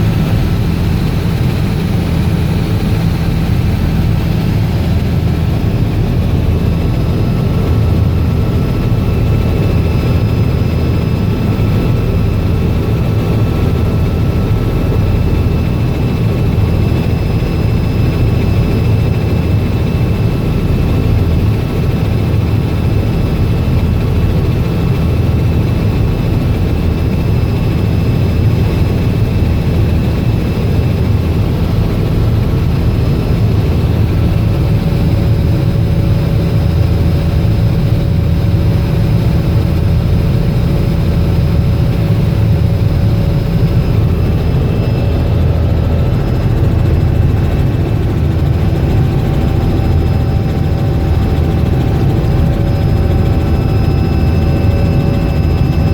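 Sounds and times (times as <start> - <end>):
helicopter engine and rotor drone: 0.0 - 55.9.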